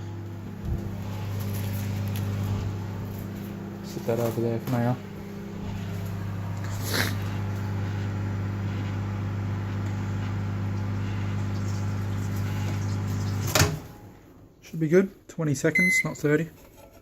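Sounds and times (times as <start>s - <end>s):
microwave oven humming: 0.0s - 14.6s.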